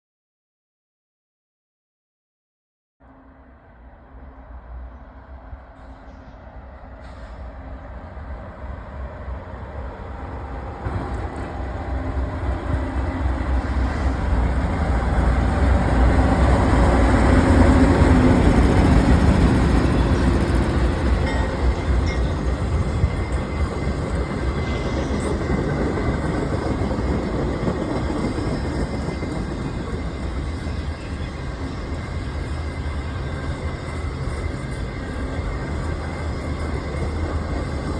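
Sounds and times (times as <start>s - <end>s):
freight train rumbling past: 3.1s - 37.9s.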